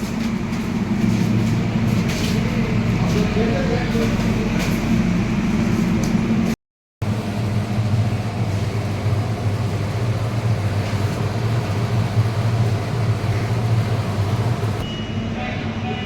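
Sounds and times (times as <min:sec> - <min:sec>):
refrigeration machinery humming: 0:00.0 - 0:16.0.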